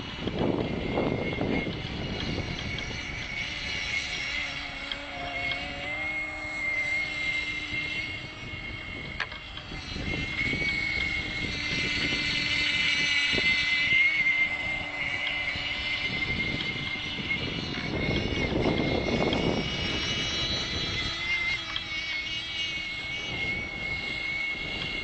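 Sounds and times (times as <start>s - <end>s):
model boat engine whining: 0.0s - 25.0s
wind buffeting microphone: 0.0s - 25.0s.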